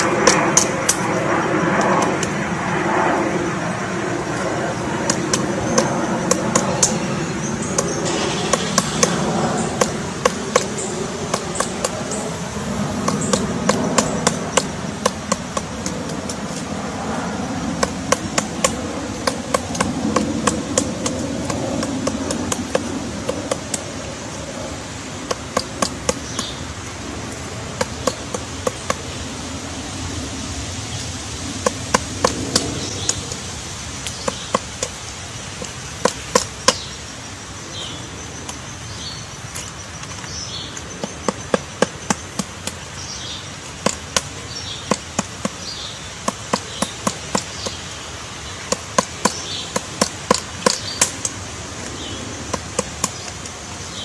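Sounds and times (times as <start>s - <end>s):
steady background noise: 0.0s - 54.0s
woodpecker pecking: 0.0s - 54.0s.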